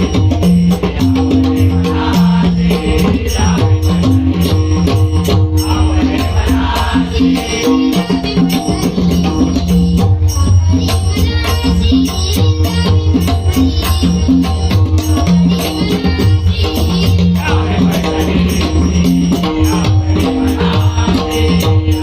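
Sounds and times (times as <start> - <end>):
steady percussion beat: 0.0 - 22.0.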